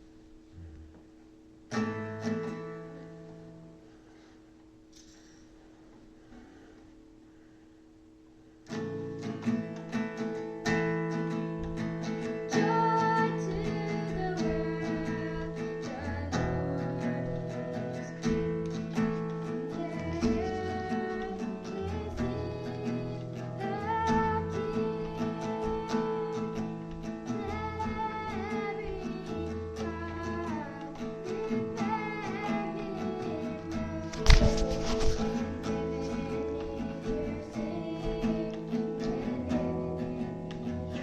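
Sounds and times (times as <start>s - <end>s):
acoustic guitar strumming hymn: 0.0s - 7.6s, 8.6s - 41.0s.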